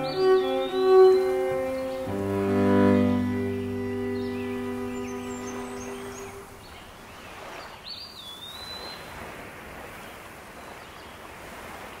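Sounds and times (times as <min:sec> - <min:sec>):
water at shoreline: 0:00.0 - 0:12.0
wind: 0:00.0 - 0:12.0.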